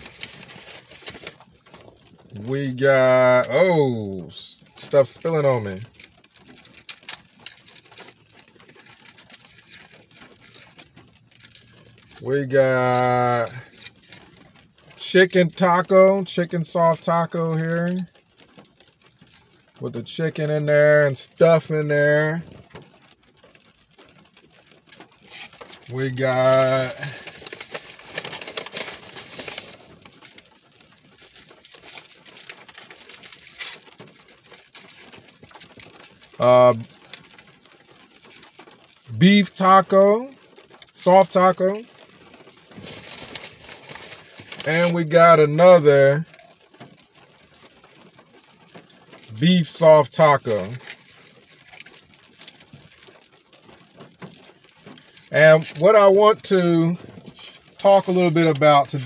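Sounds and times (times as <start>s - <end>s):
food wrappers crackling and rustling: 0.0s - 59.0s.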